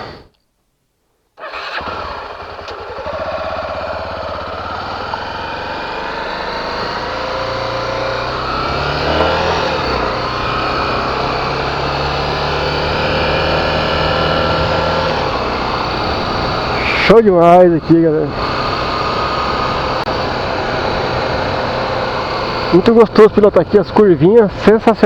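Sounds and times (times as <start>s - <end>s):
motorcycle engine running: 1.5s - 25.0s.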